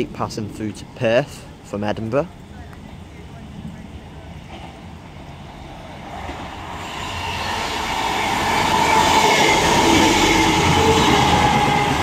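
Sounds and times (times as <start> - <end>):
train engines and wheels on rails: 0.0 - 12.0.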